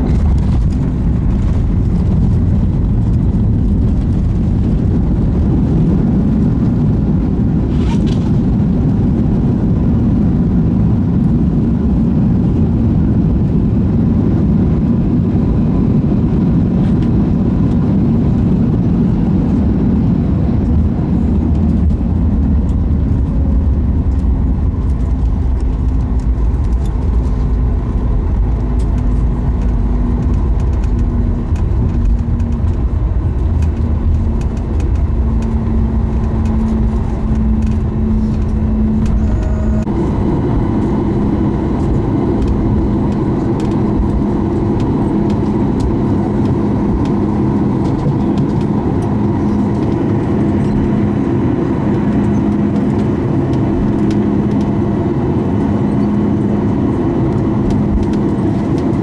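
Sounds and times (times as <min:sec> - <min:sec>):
deep rumble: 0:00.0 - 0:59.0
jet engine and airflow roar: 0:00.0 - 0:59.0.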